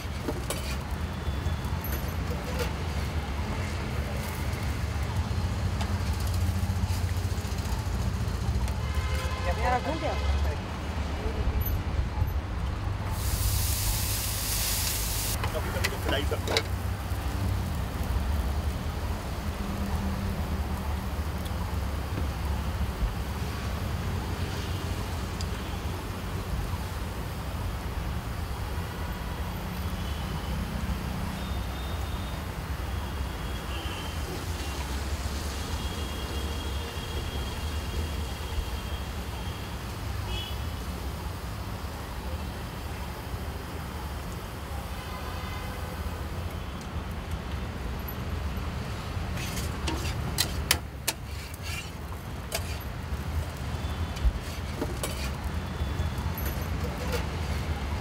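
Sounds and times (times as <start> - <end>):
road traffic hum: 0.0 - 58.0.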